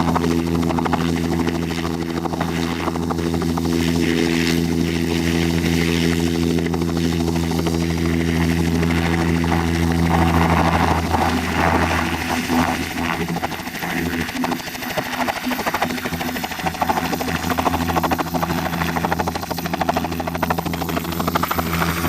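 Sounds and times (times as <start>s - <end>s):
helicopter rotor and turbine buzz: 0.0s - 22.0s.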